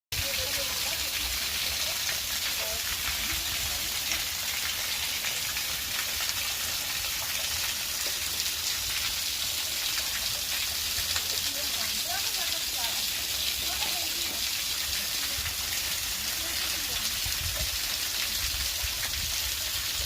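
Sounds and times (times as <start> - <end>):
waterfall rushing: 0.2 - 20.0.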